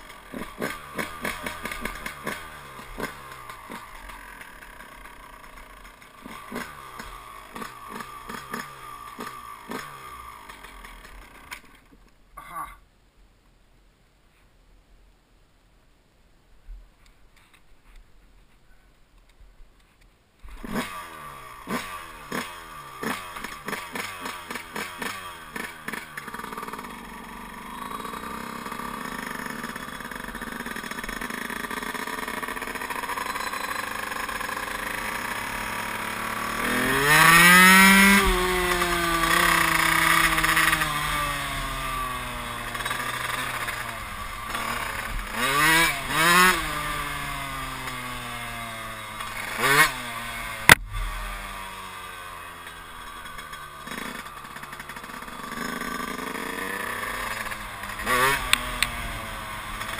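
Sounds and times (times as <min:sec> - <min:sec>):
two-stroke motorcycle engine revving: 0:00.0 - 0:11.8, 0:20.5 - 0:59.9.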